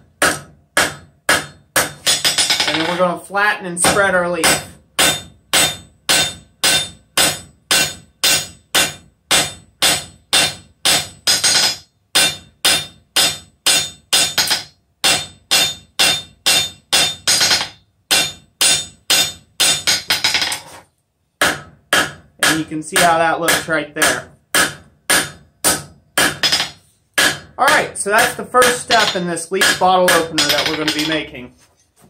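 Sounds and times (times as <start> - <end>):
hammer striking metal on anvil: 0.2 - 3.0, 3.8 - 20.7, 21.4 - 31.3.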